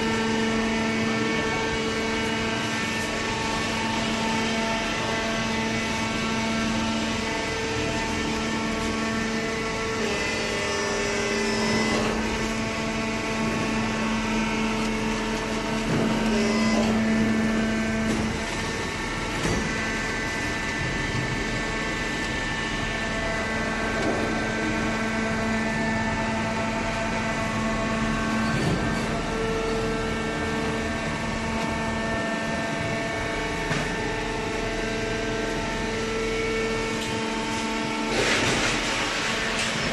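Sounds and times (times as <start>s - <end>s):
hydraulic machine hum: 0.0s - 39.9s.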